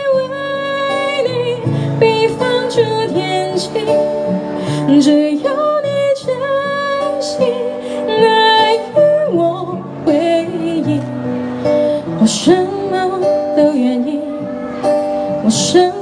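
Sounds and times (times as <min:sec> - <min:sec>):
acoustic guitar: 0:00.0 - 0:16.0
woman singing into a microphone: 0:00.0 - 0:16.0.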